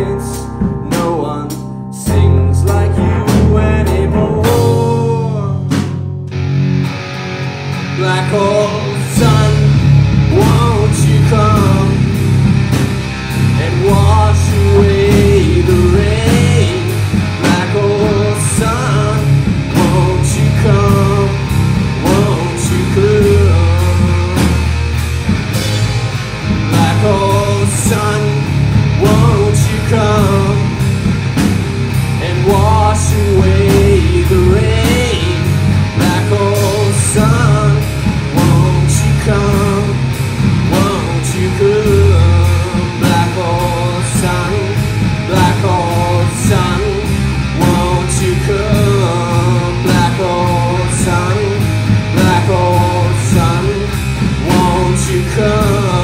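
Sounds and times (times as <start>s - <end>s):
man singing lead vocal: 0.0s - 6.1s, 7.7s - 25.9s, 26.6s - 56.0s
live rock band playing: 0.0s - 56.0s.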